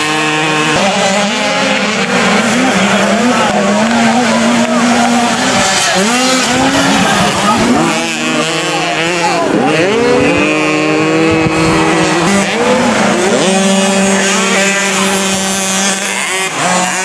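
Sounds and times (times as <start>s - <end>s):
two-stroke motocross engines revving: 0.0s - 17.0s.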